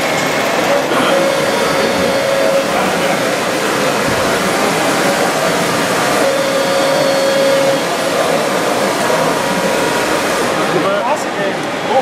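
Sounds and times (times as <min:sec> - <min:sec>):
electric motors whirring: 0:00.0 - 0:10.9
thin whine: 0:00.0 - 0:12.0.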